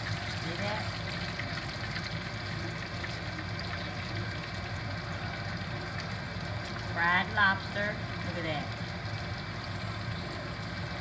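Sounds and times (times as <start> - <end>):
oil sizzling in a skillet: 0.0 - 11.0.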